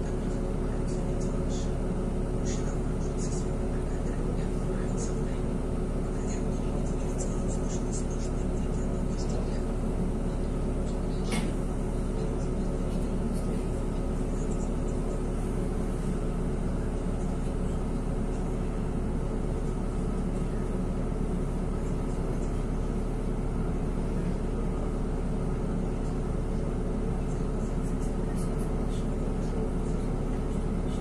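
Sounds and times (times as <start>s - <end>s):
bus engine drone: 0.0s - 31.0s.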